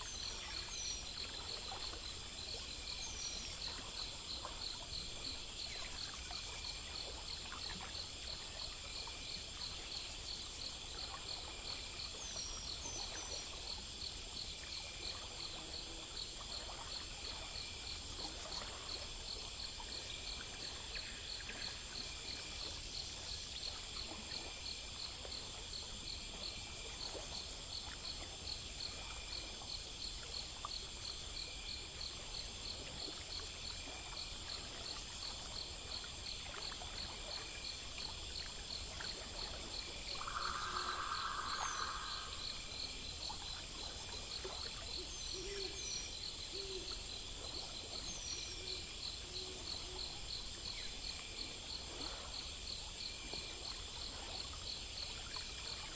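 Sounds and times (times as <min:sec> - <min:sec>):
crickets and insects chirping: 0:00.0 - 0:55.9.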